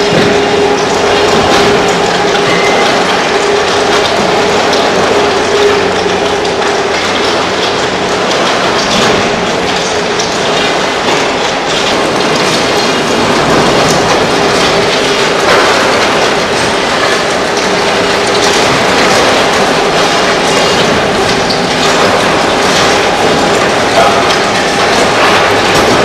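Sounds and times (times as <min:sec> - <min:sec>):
machinery hum: 0:00.0 - 0:26.0
machinery rattling clatter: 0:00.0 - 0:26.0.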